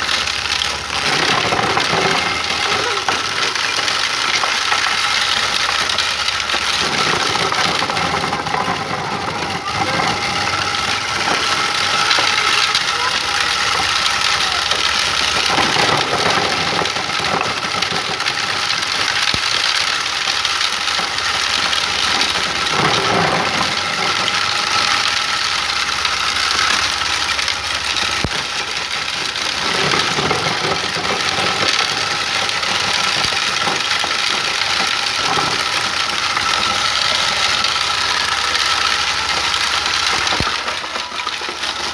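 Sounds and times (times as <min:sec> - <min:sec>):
corn sheller motor whining: 0:00.0 - 0:41.9.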